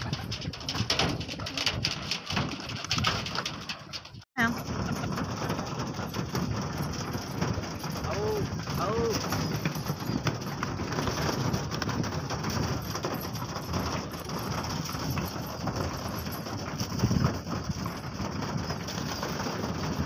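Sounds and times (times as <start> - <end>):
pigeon wings flapping: 0.0 - 20.0
pigeons pecking grain: 0.0 - 20.0.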